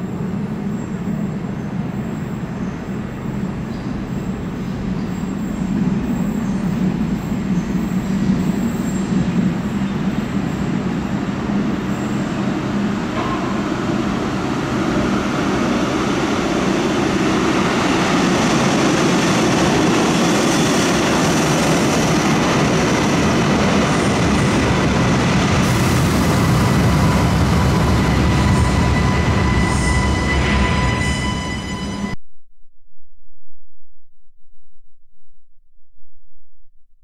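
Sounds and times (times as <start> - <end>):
light-rail train passing: 0.0 - 32.2.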